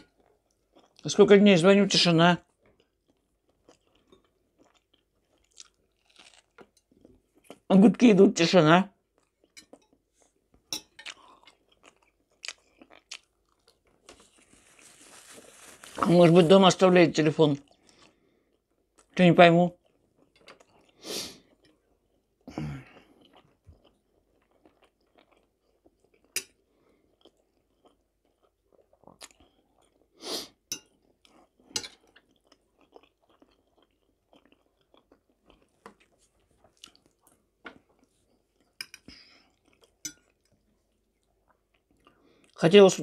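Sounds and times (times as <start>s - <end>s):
chewing food: 0.0s - 1.2s, 2.4s - 7.7s, 9.0s - 16.1s, 17.5s - 42.6s.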